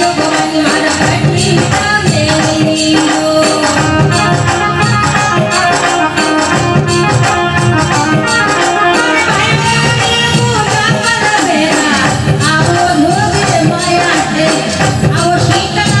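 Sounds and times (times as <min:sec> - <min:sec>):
instrumental accompaniment: 0:00.0 - 0:16.0
rhythmic percussion: 0:00.0 - 0:16.0.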